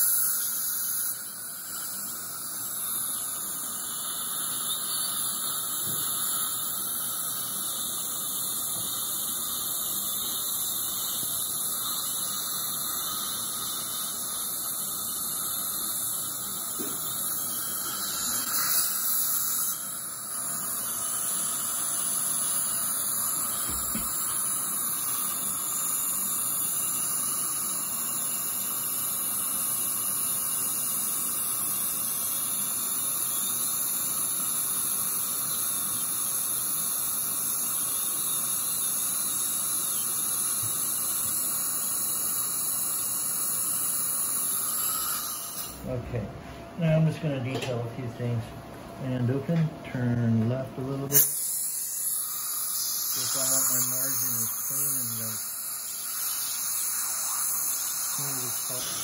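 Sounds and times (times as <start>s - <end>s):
dental drill whining: 0.0s - 45.9s, 50.8s - 59.0s
suction tip hissing: 0.0s - 46.0s, 51.1s - 59.0s.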